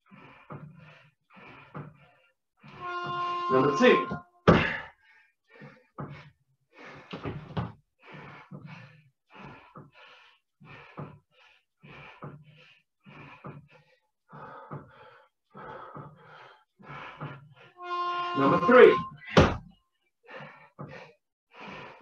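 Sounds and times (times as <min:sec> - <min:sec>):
person breathing hard: 0:00.0 - 0:02.8, 0:04.5 - 0:17.8, 0:20.2 - 0:22.0.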